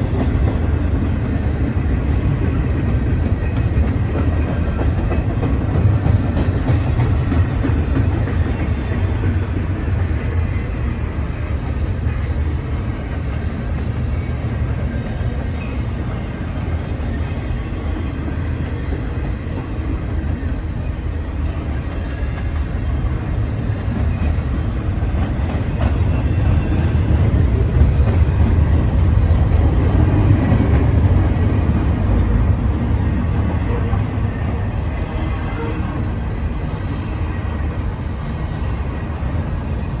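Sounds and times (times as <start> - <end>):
freight train rumbling past: 0.0 - 40.0
wheels clattering on rail: 0.0 - 40.0.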